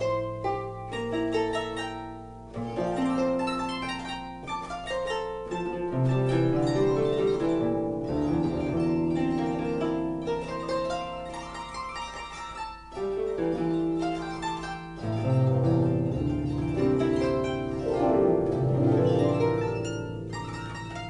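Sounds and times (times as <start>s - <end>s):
harp music: 0.0s - 21.0s.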